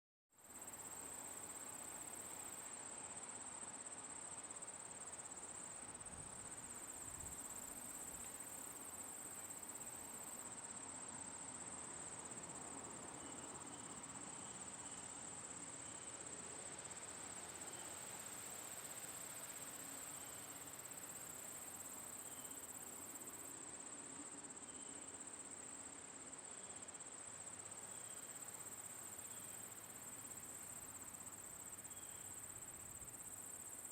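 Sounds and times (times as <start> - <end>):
high-pitched insect chorus: 0.4 - 33.9.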